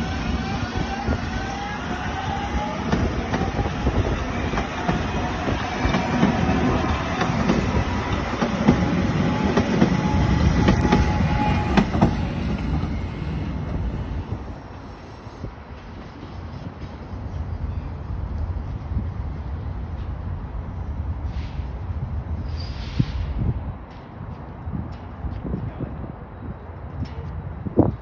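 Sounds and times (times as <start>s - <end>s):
train rumble: 0.0s - 28.0s.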